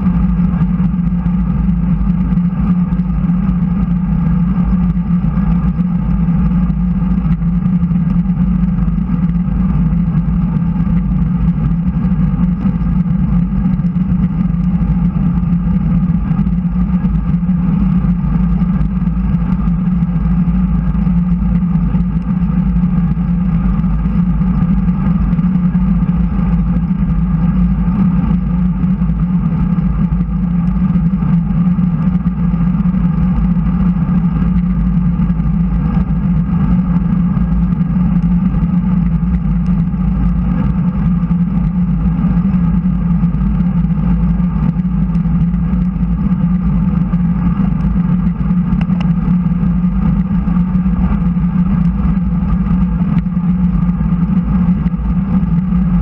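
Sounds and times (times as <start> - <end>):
constant low hum: 0.0 - 56.0
bike tyres rolling on asphalt: 0.2 - 56.0.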